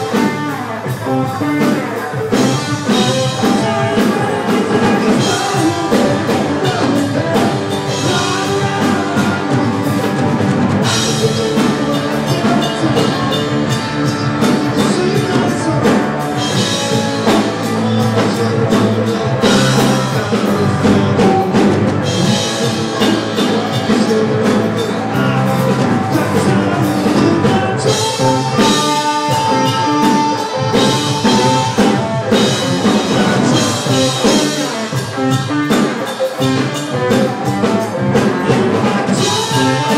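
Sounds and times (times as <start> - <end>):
rock band playing: 0.0 - 39.9
steady drum beat: 0.0 - 39.9.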